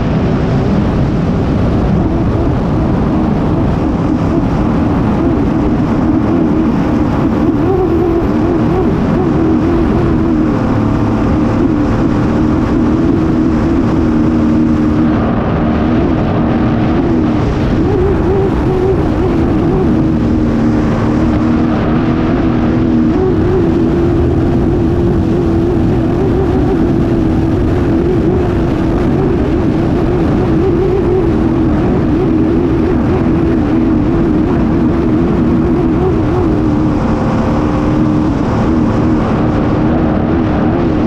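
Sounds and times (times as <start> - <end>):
boat engine running flat out: 0.0 - 41.0
rumble of wind and water spray: 0.0 - 41.0.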